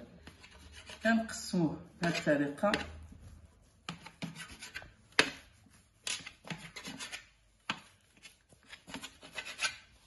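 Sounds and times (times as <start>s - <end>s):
knife cutting dough: 0.0s - 10.0s
knife scraping metal tray: 0.2s - 3.0s, 3.8s - 10.0s.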